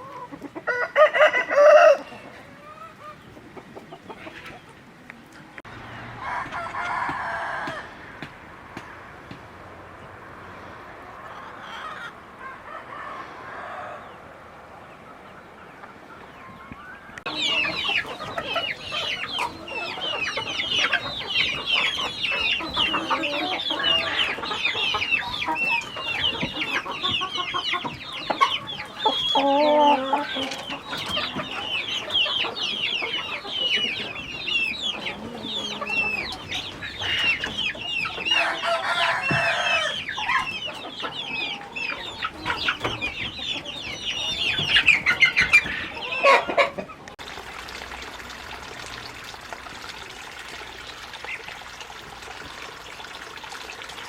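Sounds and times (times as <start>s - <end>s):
chickens clucking: 0.0s - 47.3s.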